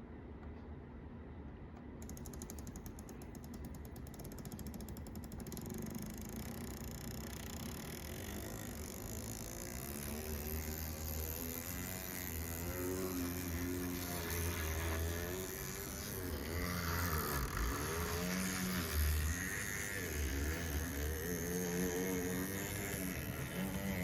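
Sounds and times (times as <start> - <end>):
fast even clicking: 1.8 - 24.0
model locomotive motor and gears: 2.0 - 24.0.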